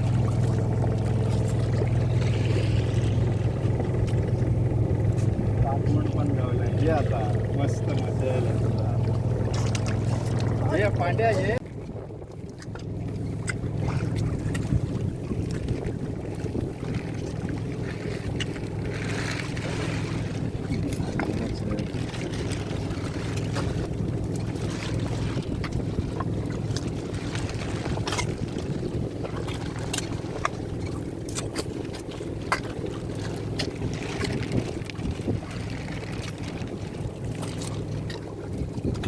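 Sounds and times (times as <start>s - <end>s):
boat motor humming: 0.0s - 39.0s.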